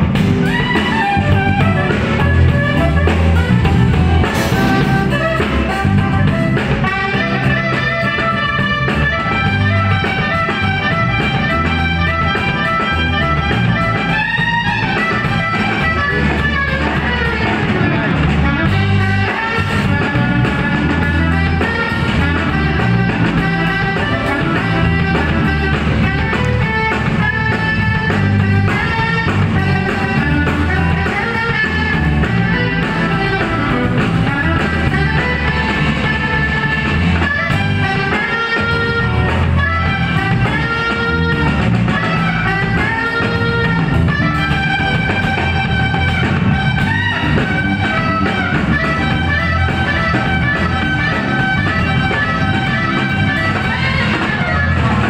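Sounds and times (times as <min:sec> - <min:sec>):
drum kit: 0:00.0 - 0:55.0
electric bass: 0:00.0 - 0:55.0
electric guitar: 0:00.0 - 0:55.0
saxophone melody: 0:00.0 - 0:55.0.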